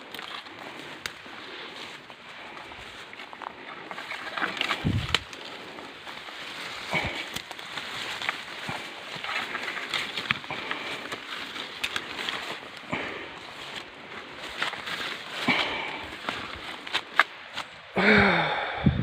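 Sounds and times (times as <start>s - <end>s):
footsteps crunching on path: 0.0s - 17.9s.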